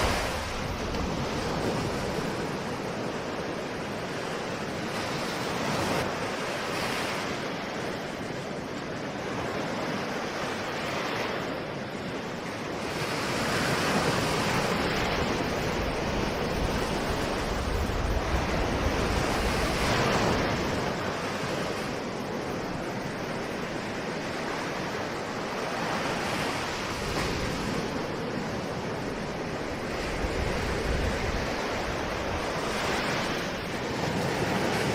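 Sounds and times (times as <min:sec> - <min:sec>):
ocean waves washing ashore: 0:00.0 - 0:34.9.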